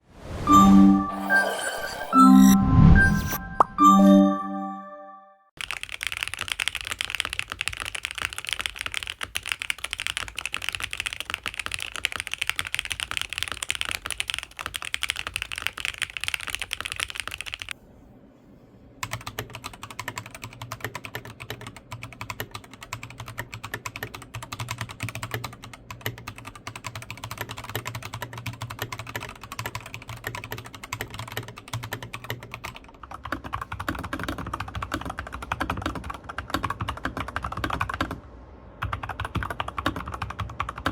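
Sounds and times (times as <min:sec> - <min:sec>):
fast typing on mechanical keyboard: 0:05.6 - 0:17.8, 0:19.0 - 0:38.2, 0:38.8 - 0:40.9.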